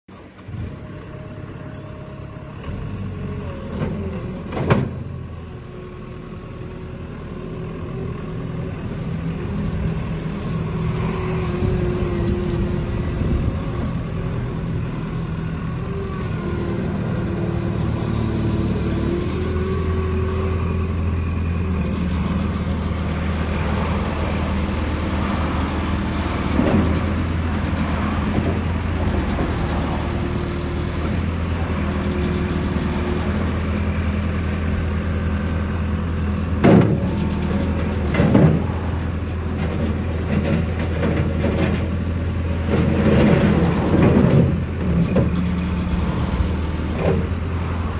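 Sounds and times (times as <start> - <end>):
diesel engine running: 0.1 - 47.9.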